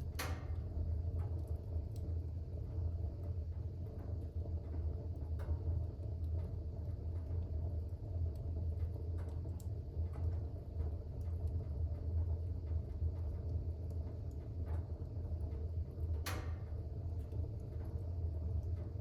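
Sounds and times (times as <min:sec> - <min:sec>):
faint fire crackles: 0:00.0 - 0:19.0
fire rumbling: 0:00.0 - 0:19.0.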